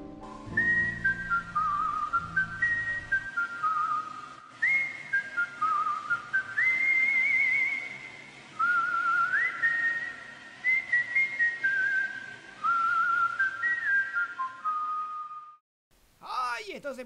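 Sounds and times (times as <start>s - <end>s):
person whistling a tune: 0.5s - 15.6s.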